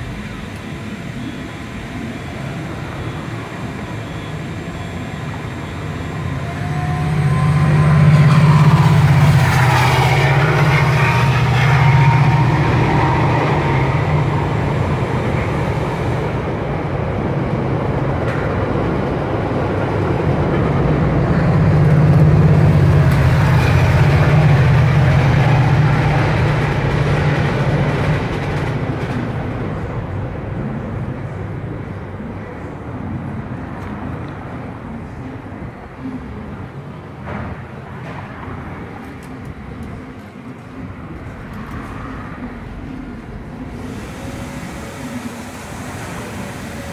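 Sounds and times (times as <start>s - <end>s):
heavy vehicle rumble: 0.0s - 46.9s.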